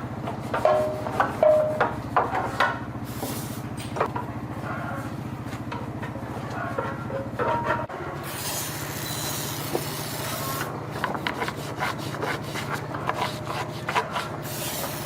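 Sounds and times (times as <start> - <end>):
motor running: 2.8 - 15.0.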